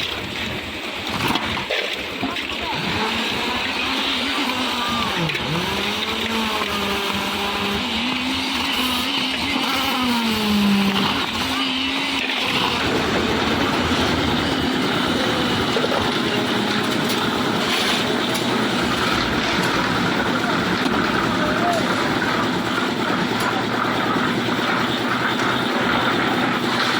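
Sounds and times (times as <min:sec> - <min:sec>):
concrete mixer engine running: 0:00.0 - 0:26.9.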